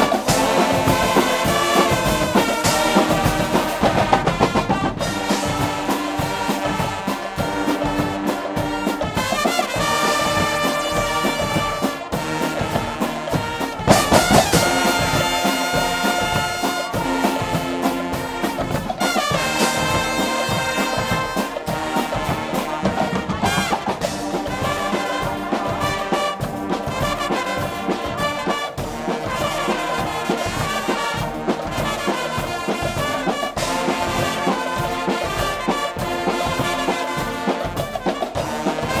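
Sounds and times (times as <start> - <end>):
brass band playing: 0.0 - 39.0
steady drum beat: 0.0 - 39.0.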